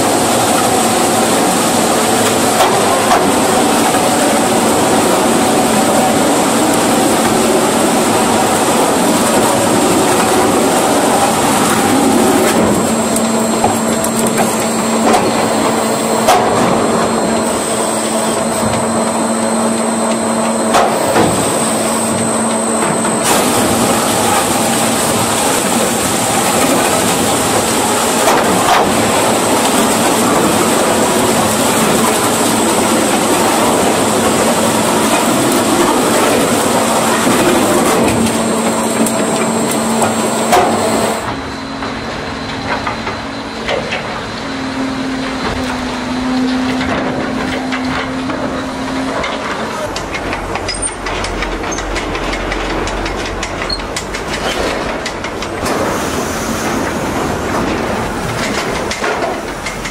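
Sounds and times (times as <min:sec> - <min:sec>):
wood-processing machinery running: 0:00.0 - 0:59.9.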